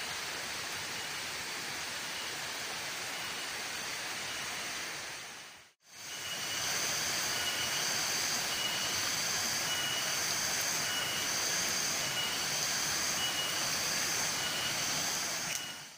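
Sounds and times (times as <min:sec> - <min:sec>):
stream rushing: 0:00.0 - 0:15.9.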